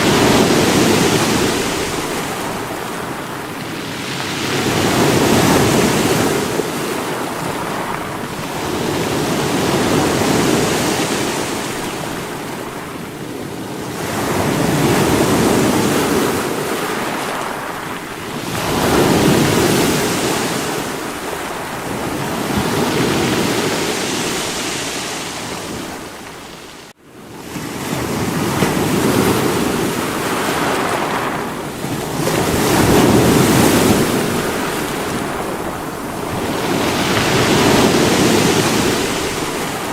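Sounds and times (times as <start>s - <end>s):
sea waves breaking on rocks: 0.0s - 39.9s.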